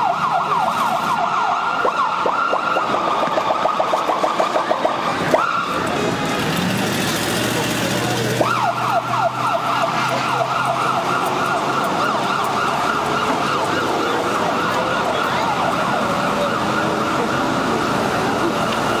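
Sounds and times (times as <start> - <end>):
siren yelping: 0.0 - 5.9, 8.4 - 19.0.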